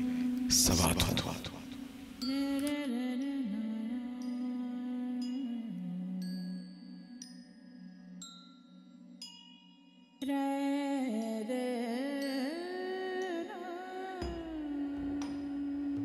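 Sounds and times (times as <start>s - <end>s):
chime-like notes: 0.0s - 16.0s.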